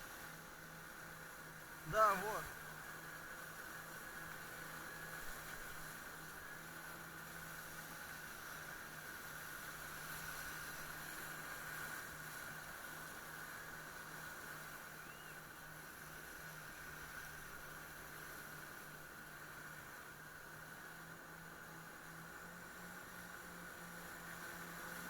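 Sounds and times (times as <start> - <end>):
constant hiss: 0.0 - 25.0
jet ski engine running: 0.0 - 25.0.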